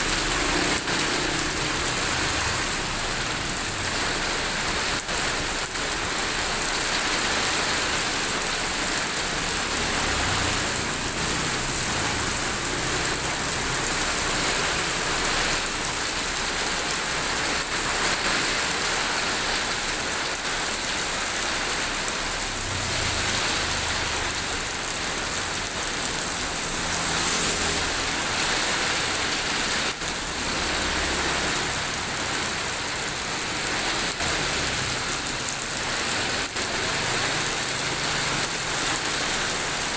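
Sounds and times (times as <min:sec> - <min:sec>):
heavy rain in wind: 0:00.0 - 0:39.9.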